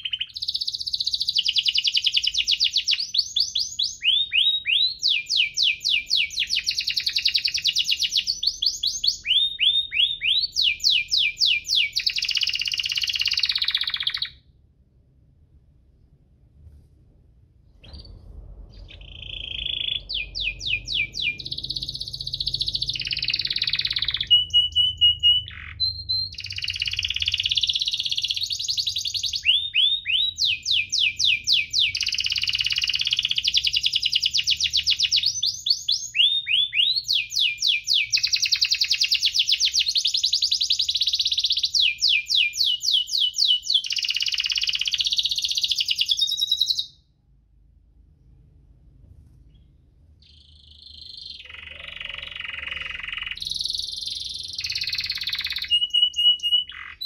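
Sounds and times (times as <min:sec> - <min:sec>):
canary singing trills: 0:00.0 - 0:14.4, 0:17.8 - 0:47.0, 0:49.5 - 0:57.0.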